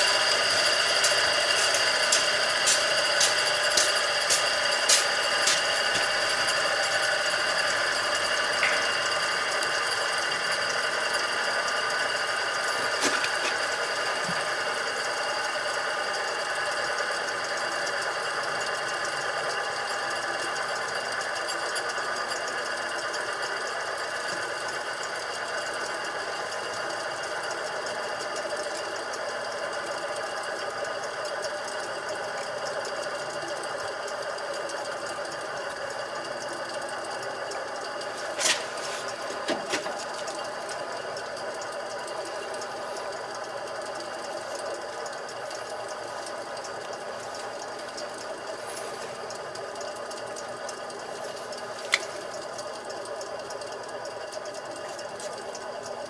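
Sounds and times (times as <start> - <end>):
burner mechanical noise: 0.0 - 21.0, 30.2 - 56.0.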